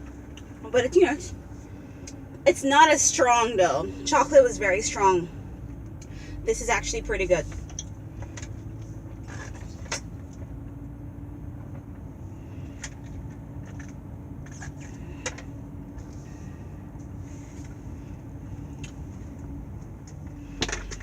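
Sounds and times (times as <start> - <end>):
car interior rumble: 0.0 - 21.0
steady hum: 0.0 - 21.0.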